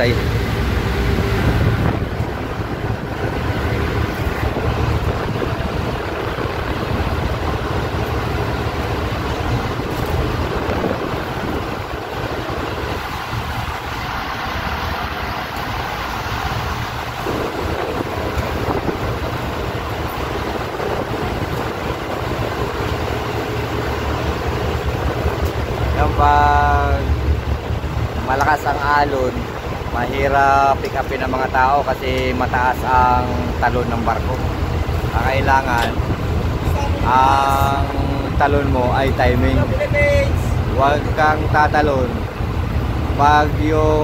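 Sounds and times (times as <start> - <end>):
ship engines rumbling: 0.0 - 44.0
wind buffeting microphone: 0.0 - 44.0.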